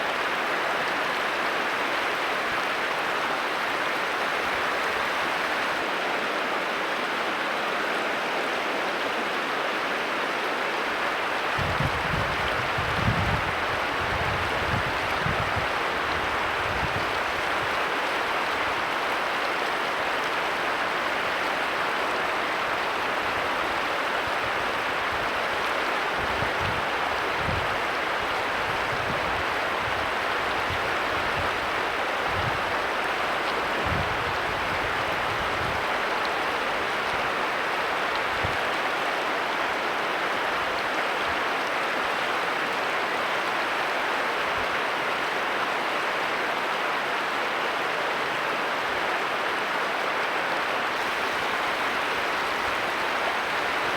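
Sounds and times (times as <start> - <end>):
flowing stream rushing: 0.0 - 53.9.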